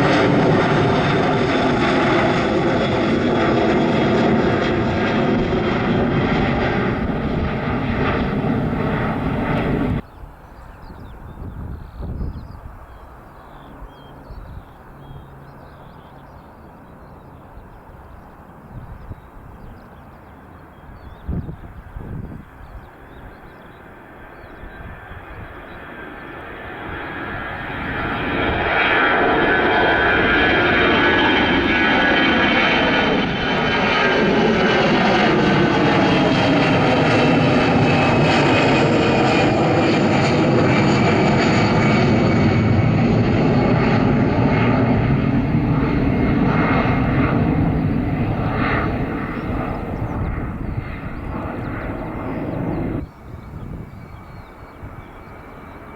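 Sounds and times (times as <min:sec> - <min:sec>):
airliner engines passing: 0:00.0 - 0:55.9.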